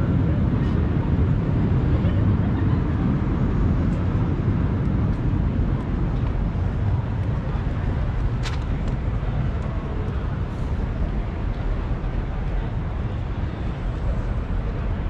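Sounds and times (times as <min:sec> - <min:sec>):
low city rumble: 0:00.0 - 0:15.0
murmur of distant voices: 0:00.0 - 0:15.0.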